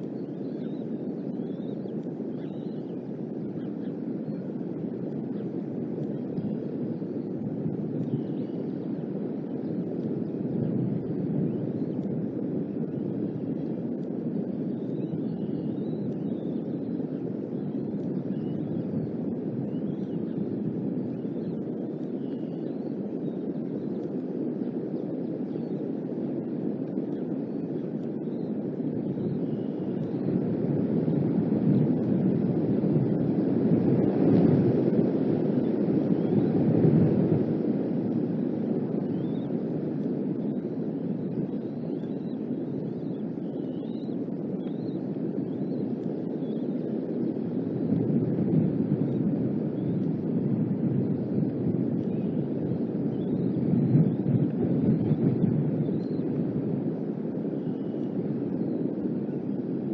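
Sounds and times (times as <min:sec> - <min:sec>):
faint bird chirps: 0:00.0 - 0:33.4, 0:35.3 - 0:36.8, 0:38.3 - 0:50.3, 0:51.9 - 0:59.9
gusty wind rumbling on microphone: 0:00.0 - 0:59.9.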